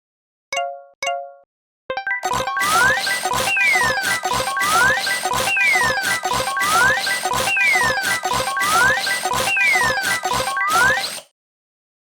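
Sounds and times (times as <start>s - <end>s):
playful cartoon music: 0.6s - 11.3s.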